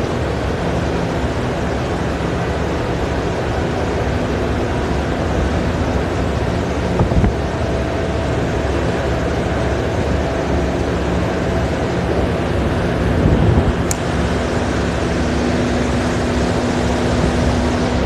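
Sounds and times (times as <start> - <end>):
conveyor machinery drone: 0.0 - 18.0.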